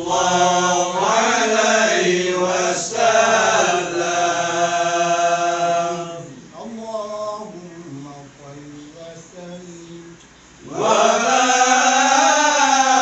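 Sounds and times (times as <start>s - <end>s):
men chanting devotional verses: 0.0s - 13.0s.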